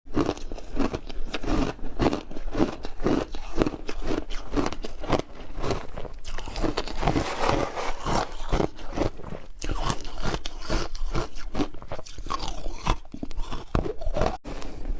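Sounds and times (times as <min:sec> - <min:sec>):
chewing crunchy food: 0:00.1 - 0:14.7.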